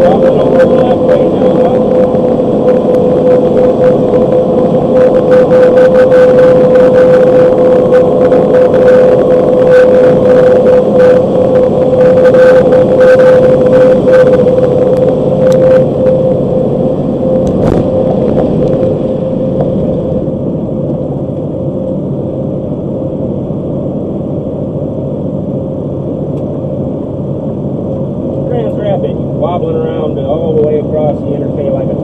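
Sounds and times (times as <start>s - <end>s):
car road noise at highway speed: 0.0s - 32.0s.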